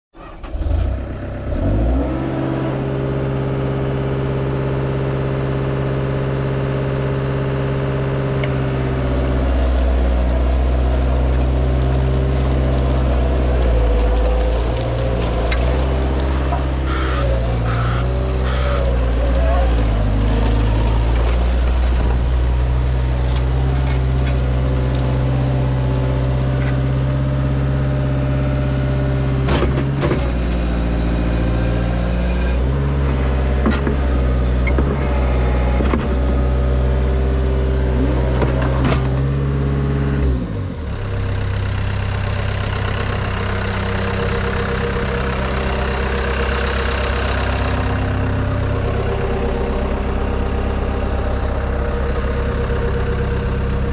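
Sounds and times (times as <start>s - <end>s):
diesel engine running: 0.2s - 53.9s.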